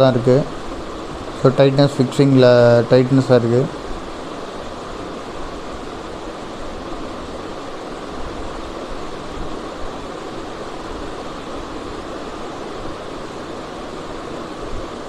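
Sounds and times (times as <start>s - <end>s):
small cooling fan running: 0.0s - 15.0s.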